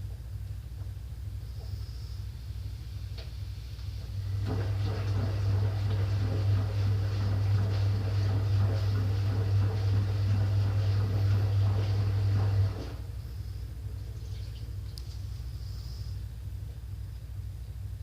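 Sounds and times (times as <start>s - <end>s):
washing machine humming: 0.0s - 18.0s.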